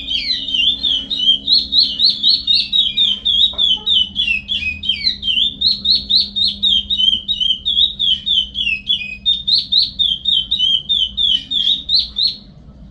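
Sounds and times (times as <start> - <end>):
finch singing whistled notes: 0.0 - 12.6.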